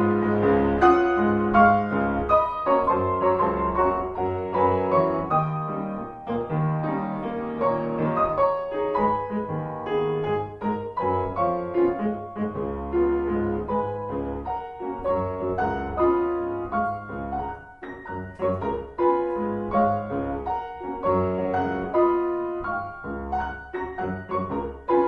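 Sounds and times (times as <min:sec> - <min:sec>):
classical solo piano: 0:00.0 - 0:25.0.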